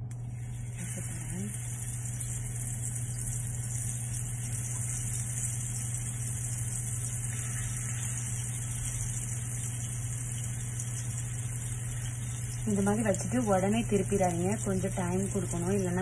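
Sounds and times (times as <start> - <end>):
low hum: 0.0 - 16.0
fish sizzling in oil: 0.3 - 16.0.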